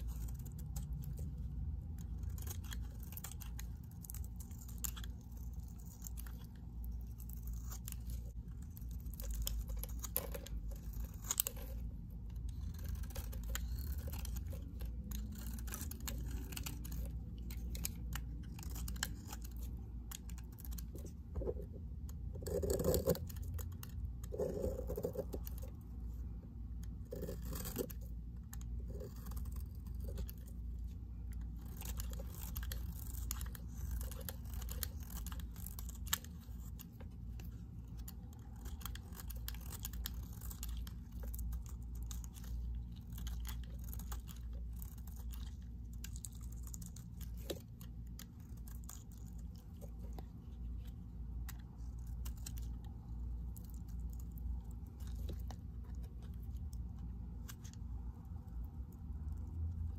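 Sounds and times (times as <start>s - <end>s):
knife shaving soap: 0.0s - 59.9s.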